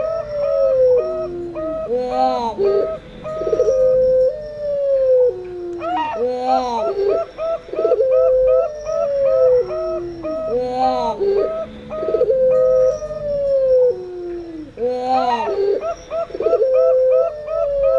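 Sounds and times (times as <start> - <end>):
dove cooing: 0.0 - 17.9
high bird trills: 0.0 - 17.9
long descending coo: 0.0 - 17.9.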